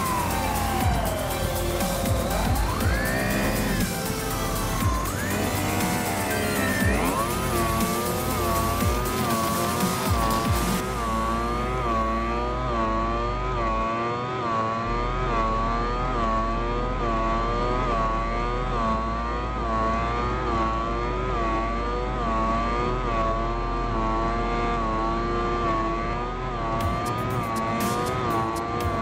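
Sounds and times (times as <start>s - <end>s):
electric motor and propeller whining: 0.0s - 29.0s.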